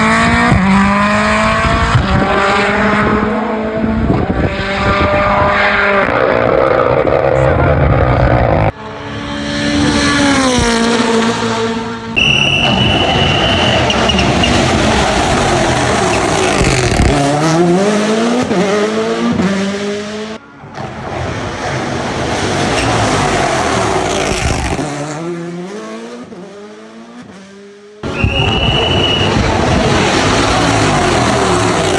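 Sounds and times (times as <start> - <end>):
rally car engine accelerating: 0.0 - 31.9.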